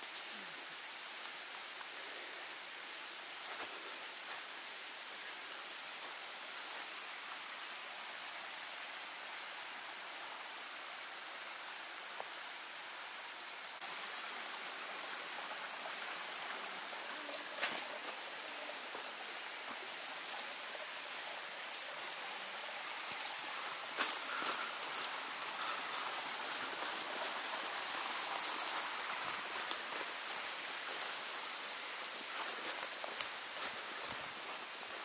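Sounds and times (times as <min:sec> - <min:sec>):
hiss of water: 0:00.0 - 0:35.0.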